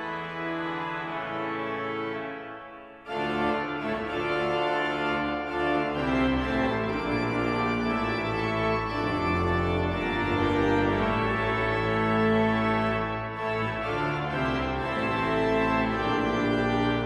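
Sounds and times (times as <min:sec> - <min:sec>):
organ pedal bass line: 0:00.0 - 0:02.4, 0:03.0 - 0:17.0
pipe organ chords: 0:00.0 - 0:17.0.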